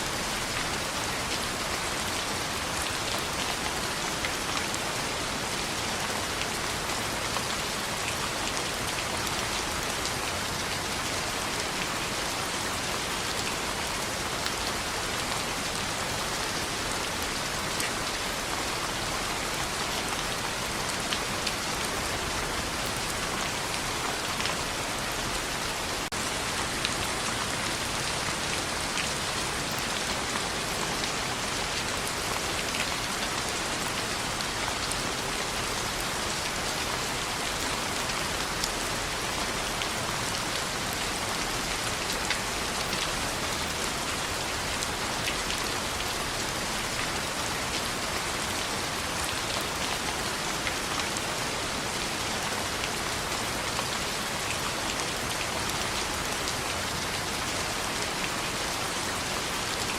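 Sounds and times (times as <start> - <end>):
rain pattering on a window: 0.1 - 59.9.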